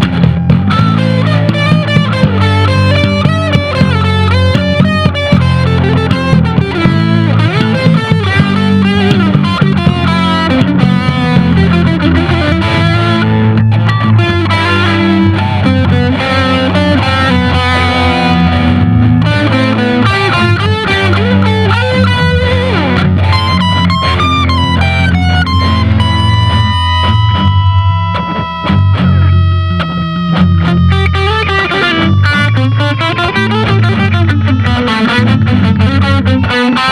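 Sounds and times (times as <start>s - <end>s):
bass backing: 0.0s - 36.9s
electric guitar blues lead: 0.0s - 36.9s.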